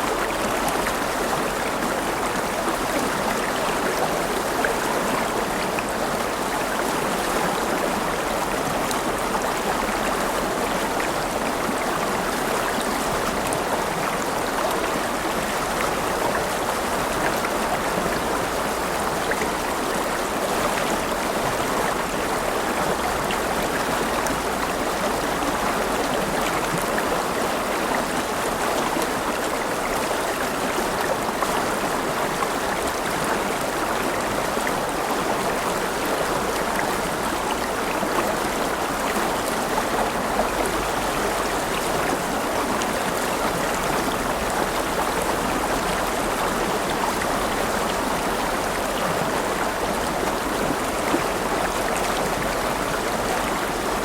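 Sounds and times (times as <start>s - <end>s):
river water rushing and splashing: 0.0s - 54.0s.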